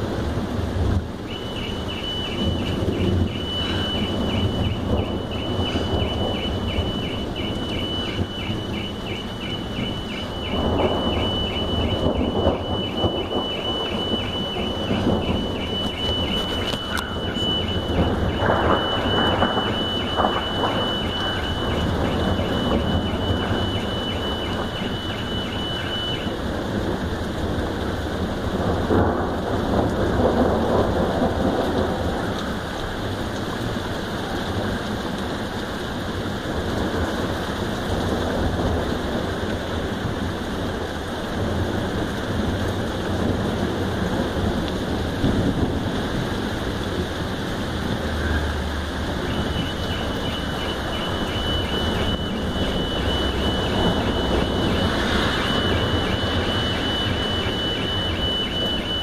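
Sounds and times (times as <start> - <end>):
rolling thunder: 0.0 - 35.5, 36.2 - 59.0
heavy rain: 0.0 - 59.0
pulsing car alarm: 1.1 - 31.4, 33.6 - 59.0.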